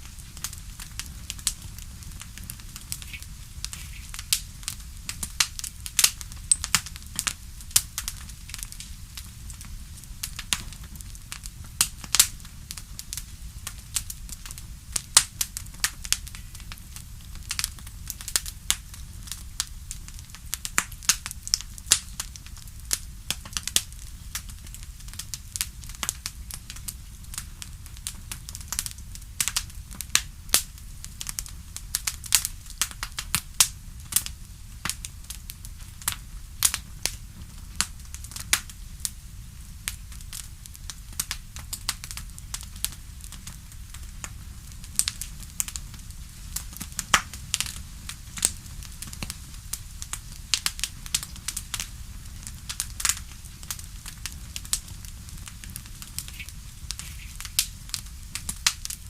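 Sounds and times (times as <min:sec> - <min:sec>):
campfire crackling and popping: 0:00.0 - 0:59.0
low rumble of fire: 0:00.0 - 0:59.0.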